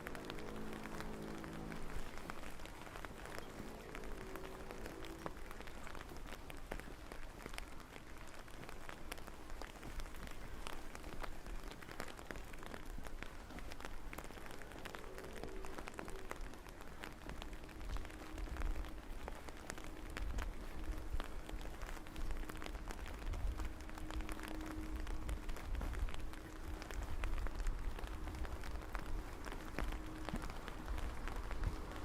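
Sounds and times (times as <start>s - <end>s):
raindrops ticking close by: 0.0s - 32.0s
steady rain falling: 0.0s - 32.0s.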